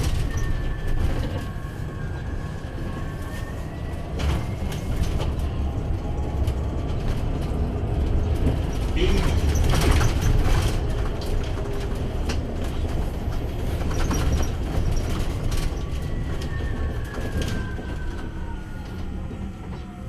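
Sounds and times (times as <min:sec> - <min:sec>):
bus road rumble: 0:00.0 - 0:20.0.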